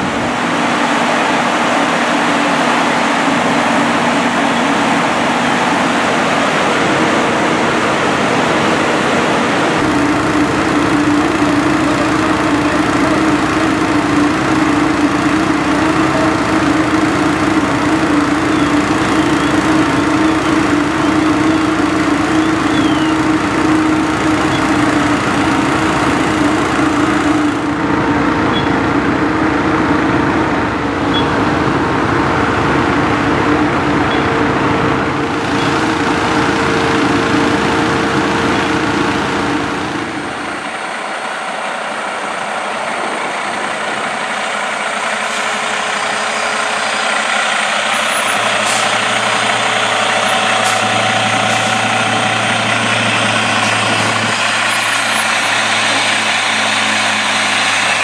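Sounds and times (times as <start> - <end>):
diesel truck idling: 0.0 - 58.0
fire engine drone with whine: 0.0 - 58.0.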